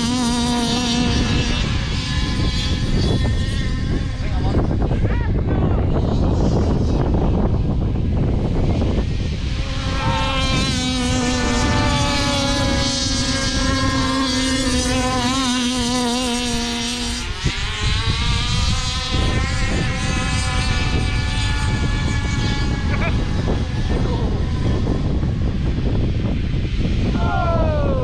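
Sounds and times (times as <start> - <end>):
small electric motors whining: 0.0 - 28.0
wind rumble on microphone: 0.0 - 28.0.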